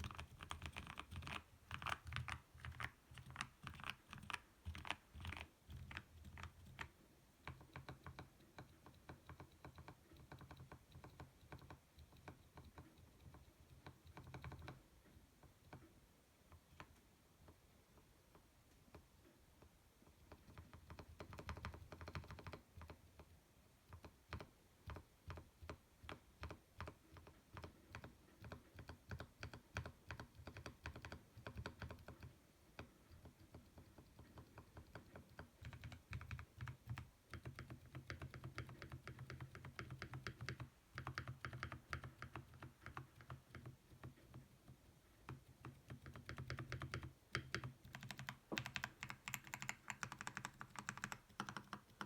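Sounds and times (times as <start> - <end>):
mechanical keyboard typing: 0.0 - 14.8, 20.3 - 23.0, 23.9 - 52.0.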